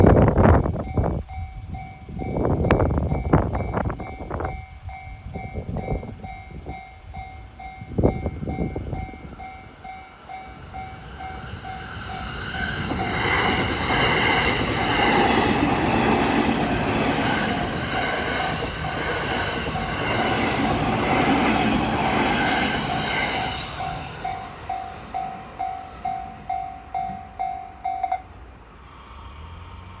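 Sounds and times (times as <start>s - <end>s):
electric train passing: 0.0s - 30.0s
level crossing warning bell: 0.4s - 28.4s.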